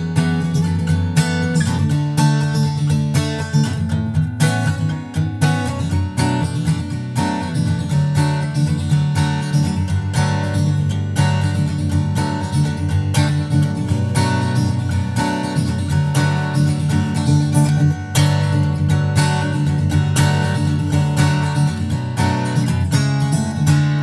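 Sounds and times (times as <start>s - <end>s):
acoustic guitar plucking and strumming: 0.0s - 24.0s.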